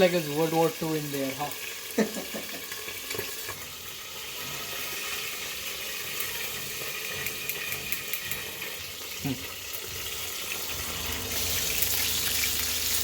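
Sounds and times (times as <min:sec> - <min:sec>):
chicken wings sizzling in oil: 0:00.0 - 0:13.0.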